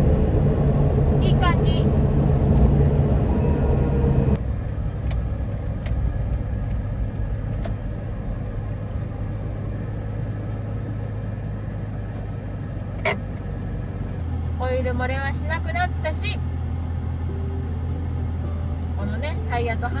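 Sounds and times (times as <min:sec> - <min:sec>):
car road and engine drone: 0:00.0 - 0:20.0.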